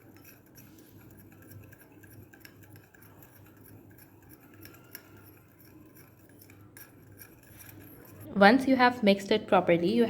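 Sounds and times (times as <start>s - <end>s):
spoon scraping and clicking in bowl: 0.0s - 8.3s.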